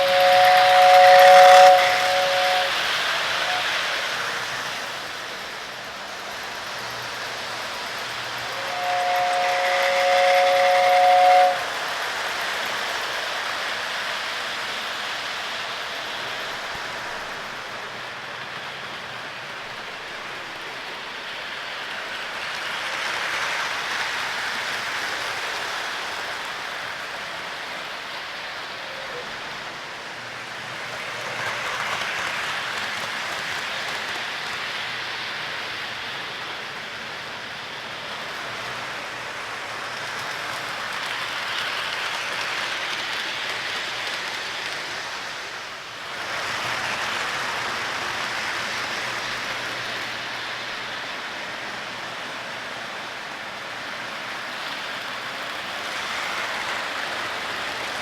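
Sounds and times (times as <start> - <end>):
model train wheels rattling: 0.0 - 28.7, 29.4 - 52.5, 54.0 - 58.0.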